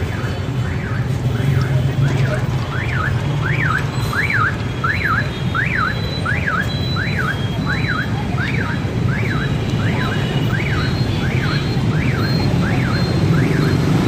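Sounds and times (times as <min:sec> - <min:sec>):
electronic alarm wailing: 0:00.0 - 0:14.0.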